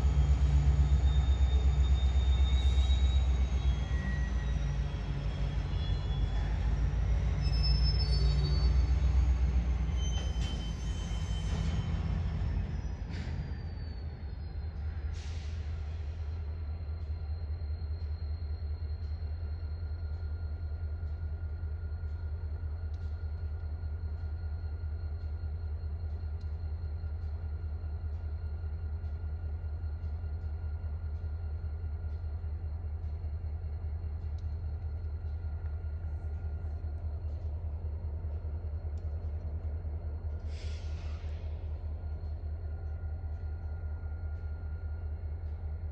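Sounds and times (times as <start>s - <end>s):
diesel locomotives idling: 0.0s - 45.9s.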